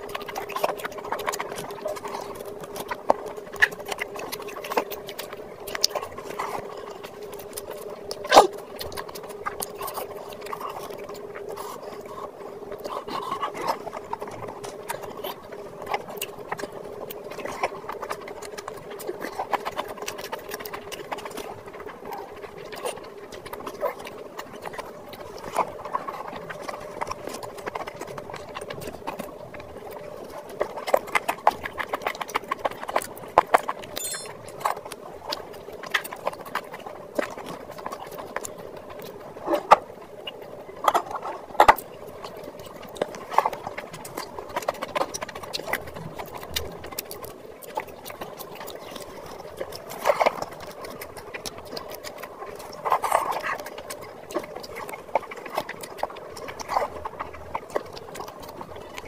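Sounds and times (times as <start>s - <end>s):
wet chewing and lip smacking: 0.0s - 59.0s.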